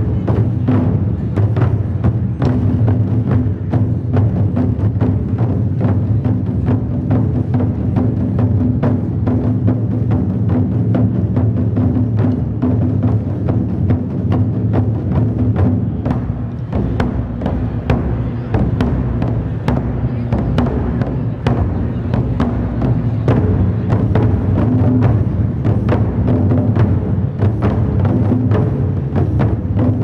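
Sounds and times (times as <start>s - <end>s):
barrel drums beaten rhythmically: 0.0s - 30.0s.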